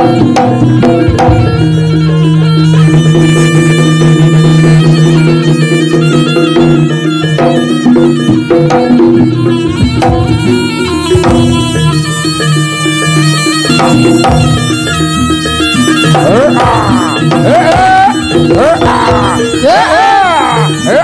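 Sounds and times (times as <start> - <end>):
drum strokes: 0.0 - 21.0
percussion: 0.0 - 21.0
shawm playing a melody: 0.0 - 21.0.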